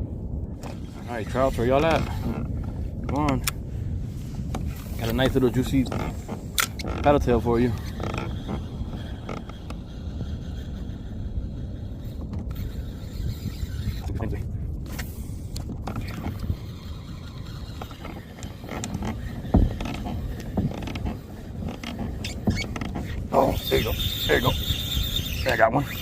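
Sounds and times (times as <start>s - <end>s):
low rumble: 0.0s - 26.0s
fishing reel clicking and creaking: 4.9s - 26.0s.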